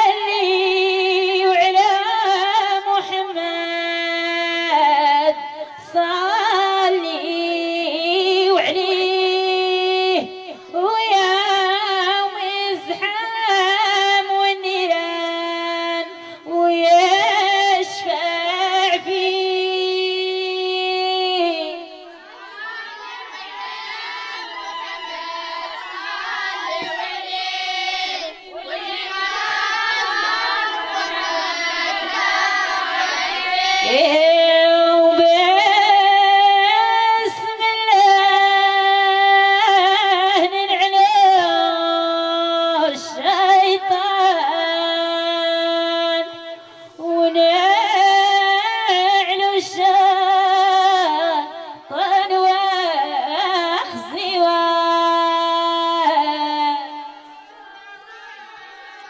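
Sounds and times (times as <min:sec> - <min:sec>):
women singing: 0:00.0 - 0:57.5.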